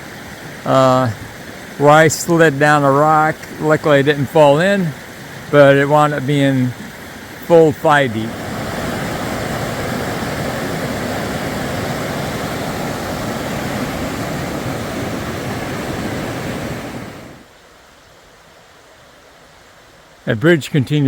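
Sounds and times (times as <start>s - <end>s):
river rushing over rocks: 0.0s - 17.9s.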